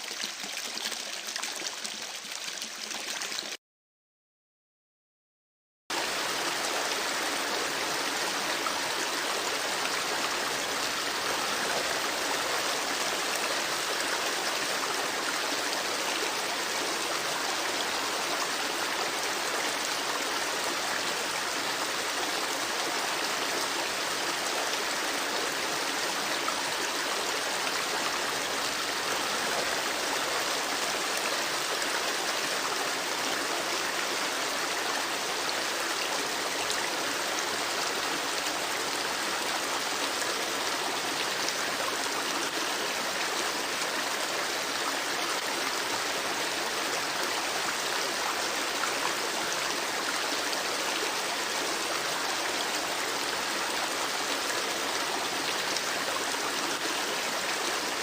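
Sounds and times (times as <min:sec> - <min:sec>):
flowing water: 0:00.0 - 0:03.6, 0:05.9 - 0:58.0.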